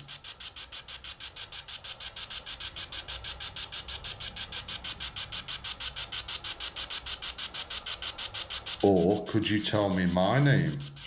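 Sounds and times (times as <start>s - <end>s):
pulsing static from phone speaker: 0.0s - 11.0s.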